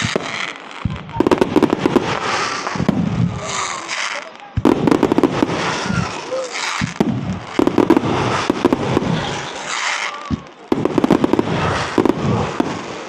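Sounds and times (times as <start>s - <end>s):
deep firework boom: 0.0s - 3.9s, 4.6s - 9.6s, 10.3s - 13.0s
fireworks crackling and popping: 0.0s - 13.0s.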